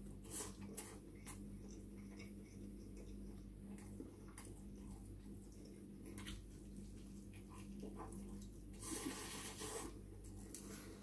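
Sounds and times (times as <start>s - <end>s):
steady low hum: 0.0s - 11.0s
faint chewing: 0.1s - 11.0s.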